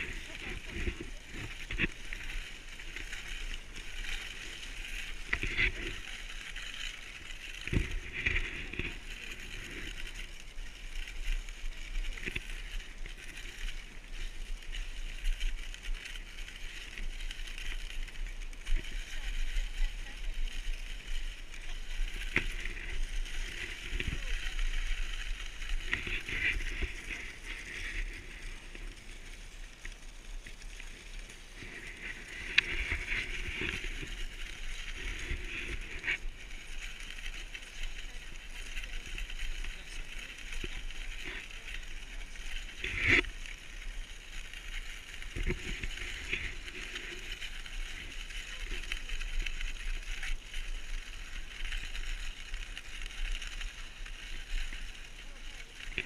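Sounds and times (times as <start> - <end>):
sled runners scraping over snow: 0.0 - 56.0.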